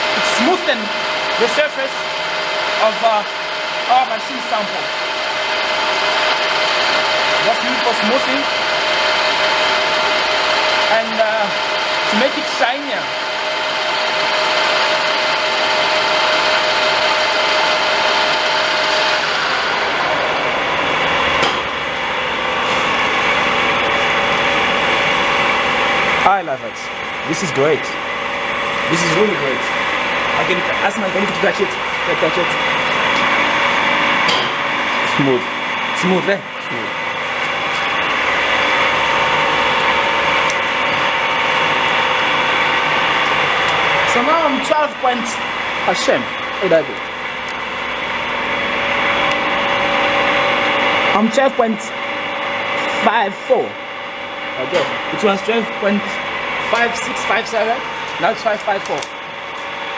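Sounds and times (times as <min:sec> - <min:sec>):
high whine: 0:00.0 - 0:59.9
lathe running: 0:00.0 - 0:59.9.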